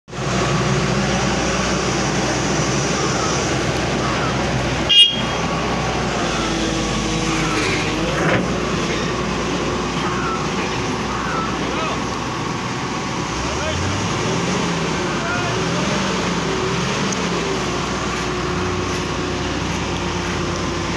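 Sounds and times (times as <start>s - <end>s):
heavy vehicle engine running: 0.1s - 20.9s
road noise: 0.1s - 20.9s.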